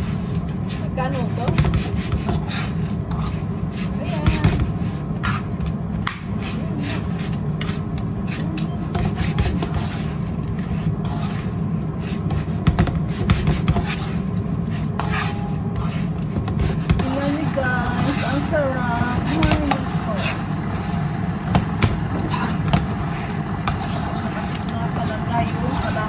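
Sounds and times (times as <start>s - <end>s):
steady low hum: 0.0s - 26.0s
spoon scraping frying pan: 0.1s - 5.6s, 6.3s - 26.0s.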